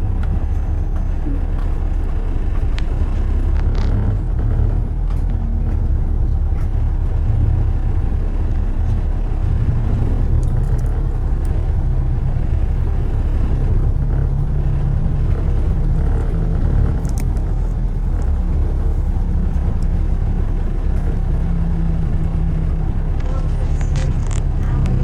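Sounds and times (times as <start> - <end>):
faint clicks: 0.0 - 25.0
road traffic rumble: 0.0 - 25.0.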